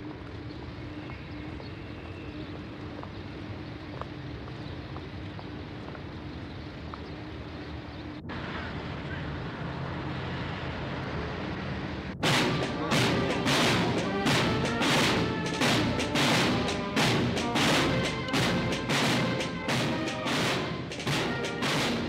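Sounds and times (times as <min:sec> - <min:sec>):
film soundtrack hiss: 0:00.0 - 0:22.0.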